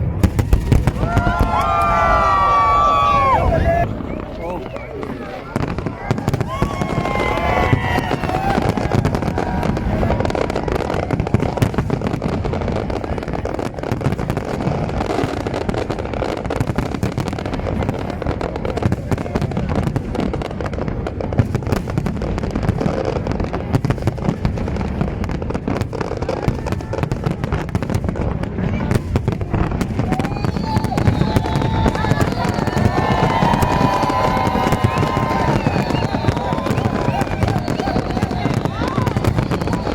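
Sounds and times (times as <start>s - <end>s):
fireworks bangs and crackles: 0.0s - 39.9s
whistling fireworks: 0.0s - 39.9s.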